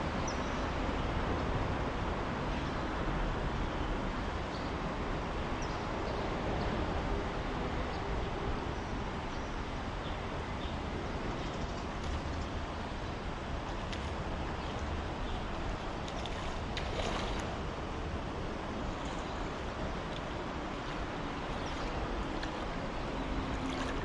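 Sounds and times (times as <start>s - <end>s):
traffic rumble overhead: 0.0s - 24.0s.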